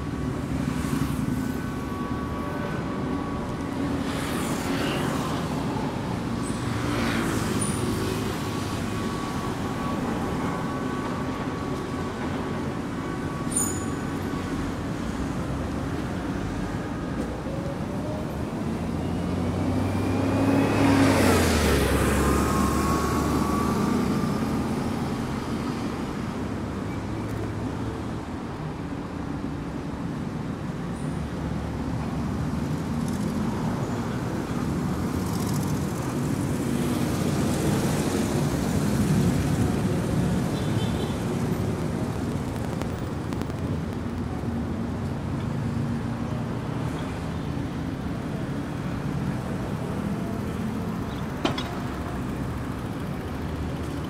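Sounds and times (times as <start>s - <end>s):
city road traffic: 0.0s - 54.0s.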